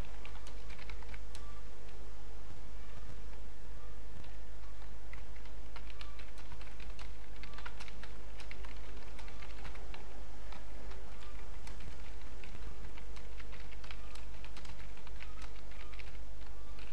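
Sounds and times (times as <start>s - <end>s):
keyboard typing: 0.0s - 2.0s, 4.2s - 16.9s
steady low hum: 0.0s - 16.9s.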